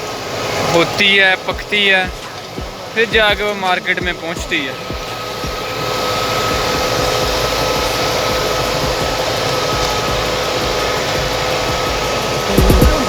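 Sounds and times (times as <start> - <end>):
faint steady whine: 0.0 - 13.0
tractor engine running: 0.0 - 13.0.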